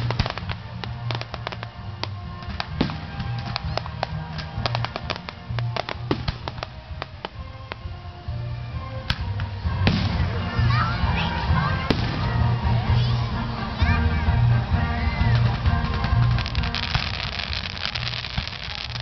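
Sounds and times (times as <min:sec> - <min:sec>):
fireworks popping and crackling: 0:00.0 - 0:08.4, 0:09.0 - 0:12.7, 0:15.2 - 0:19.0
music with low bass: 0:00.0 - 0:19.0.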